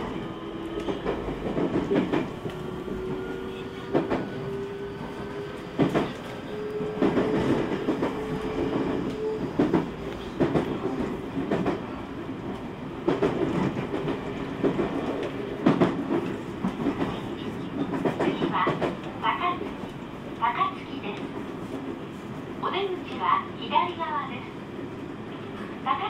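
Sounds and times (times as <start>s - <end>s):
train running gear rumble: 0.0s - 23.5s.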